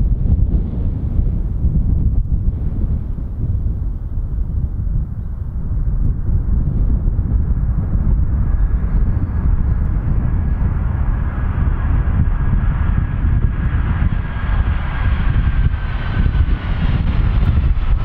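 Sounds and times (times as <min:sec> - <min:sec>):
jet engines rumbling: 0:00.0 - 0:18.0
faint high jet whine: 0:00.8 - 0:18.0.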